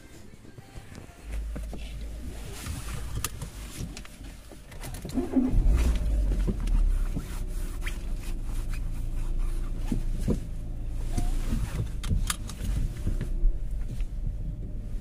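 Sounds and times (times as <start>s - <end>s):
low rumble in car cabin: 0.0s - 15.0s.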